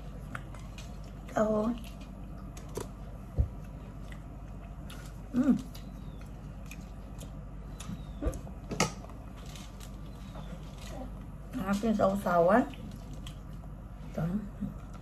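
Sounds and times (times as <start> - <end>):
chewing and smacking: 0.0 - 11.5, 12.7 - 14.0.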